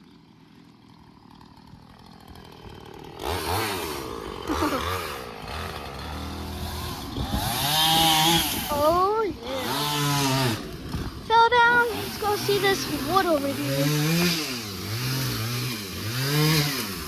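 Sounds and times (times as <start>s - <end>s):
chainsaw engine revving: 0.0s - 17.0s.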